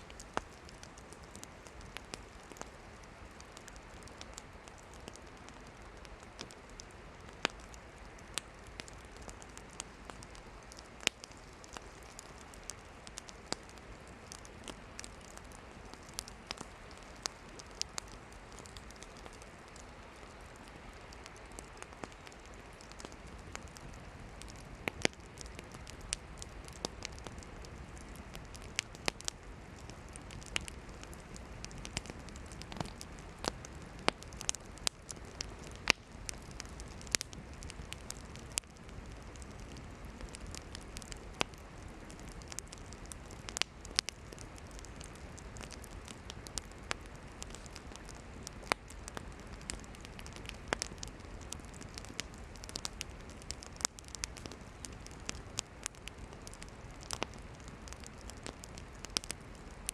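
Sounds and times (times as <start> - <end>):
campfire crackling and popping: 0.0 - 59.9
fire hiss: 0.0 - 59.9.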